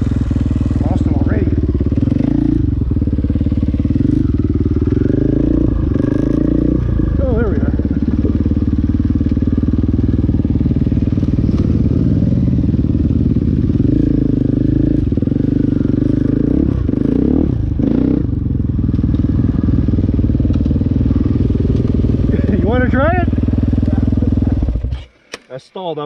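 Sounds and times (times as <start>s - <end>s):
dirt bike engine at low revs: 0.0s - 25.1s.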